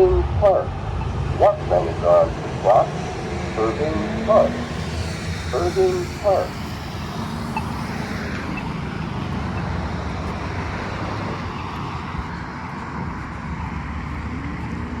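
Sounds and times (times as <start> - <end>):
rumble of passing cars: 0.0 - 15.0
vehicle pulling away: 0.0 - 15.0.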